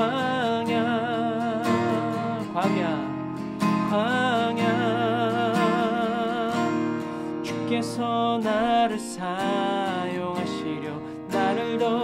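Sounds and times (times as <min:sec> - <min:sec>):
person singing with vibrato: 0:00.0 - 0:12.0
strummed acoustic guitar: 0:00.0 - 0:12.0.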